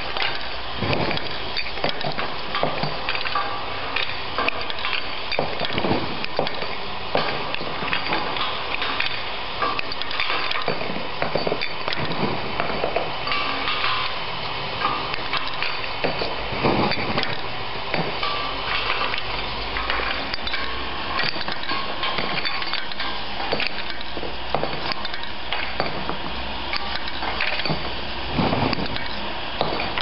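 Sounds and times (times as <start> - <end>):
conveyor motor humming: 0.0 - 30.0
corks clattering on a conveyor: 0.0 - 30.0.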